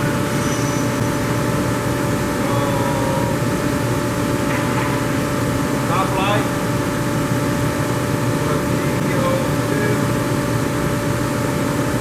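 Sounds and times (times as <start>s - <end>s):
boring mill machine drone: 0.0s - 12.0s.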